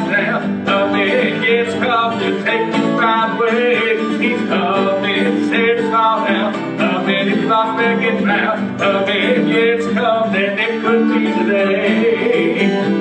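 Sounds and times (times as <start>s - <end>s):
acoustic guitars playing: 0.0s - 13.0s.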